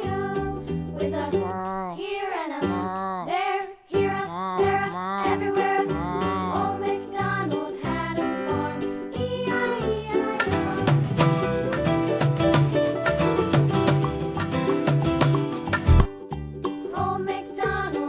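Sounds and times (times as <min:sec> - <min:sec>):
children's style music: 0:00.0 - 0:18.0.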